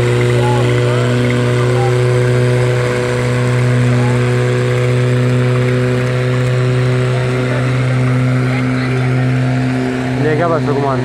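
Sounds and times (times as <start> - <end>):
tractor engines droning under load: 0.0 - 11.0.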